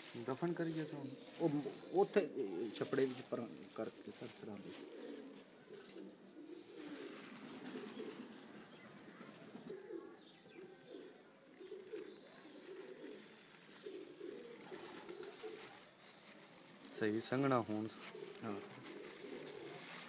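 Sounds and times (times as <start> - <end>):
pigeons cooing faintly: 0.0 - 20.0.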